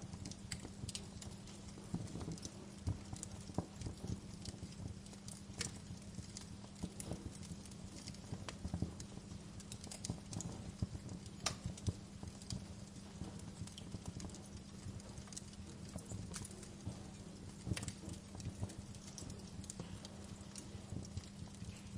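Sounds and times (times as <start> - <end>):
steady low hum: 0.0 - 21.9
wood fire crackling: 0.0 - 21.9.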